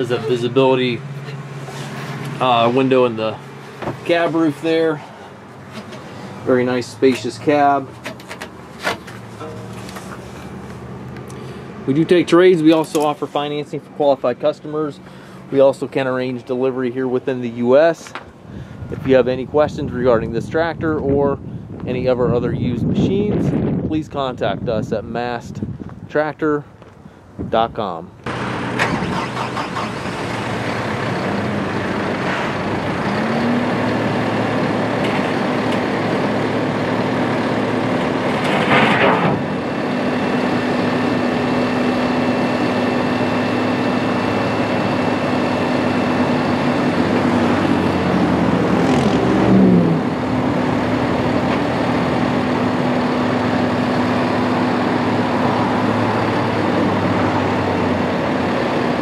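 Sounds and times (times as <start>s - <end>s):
diesel tractor engine running: 0.0s - 19.2s, 28.2s - 59.0s.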